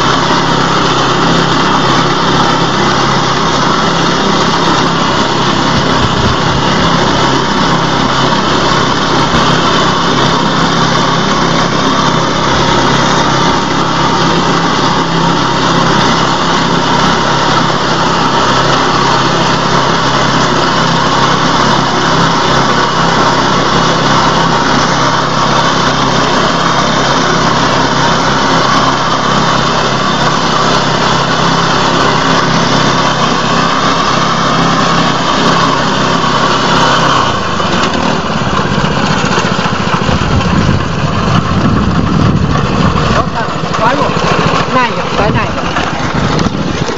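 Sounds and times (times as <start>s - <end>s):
reaper engine running: 0.0s - 46.9s.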